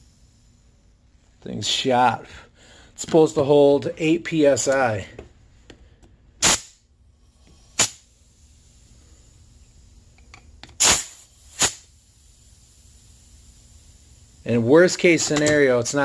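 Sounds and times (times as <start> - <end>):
compressed air hissing blasts: 0.0 - 3.5, 4.3 - 16.0.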